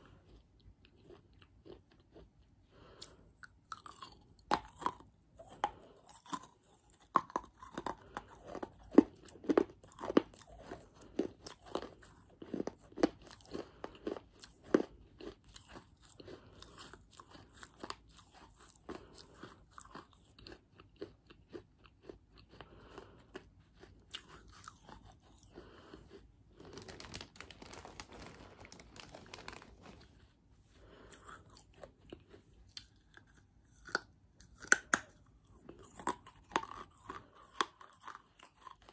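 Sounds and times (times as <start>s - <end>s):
crunching and chewing baked clay: 0.0s - 38.9s.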